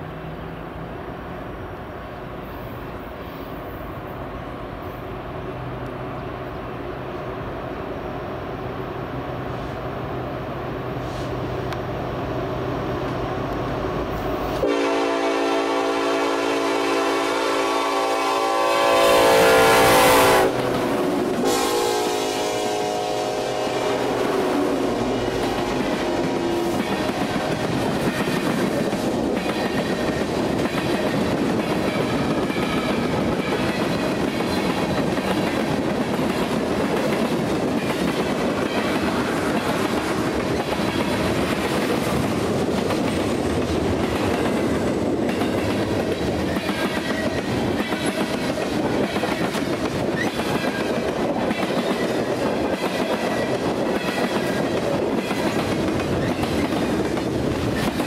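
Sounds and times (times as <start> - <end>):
steel wheels rumbling on rails: 9.1 - 58.0.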